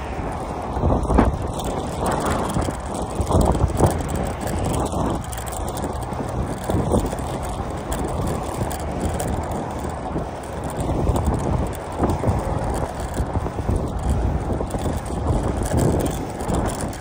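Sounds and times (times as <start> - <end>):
bike tyres rumbling on pavement: 0.0 - 17.0
wind rushing over microphone: 0.0 - 17.0.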